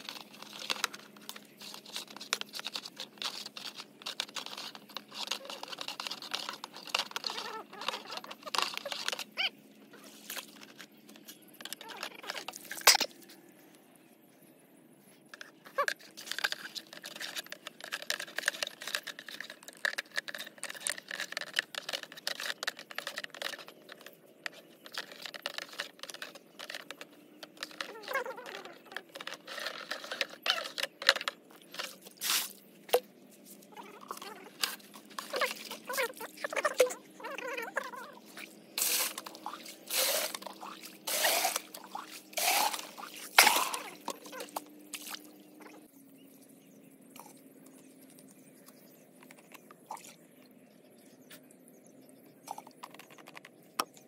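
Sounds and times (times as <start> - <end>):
plastic hose rustling and clicking: 0.0 - 13.4, 15.3 - 45.2, 52.5 - 54.0.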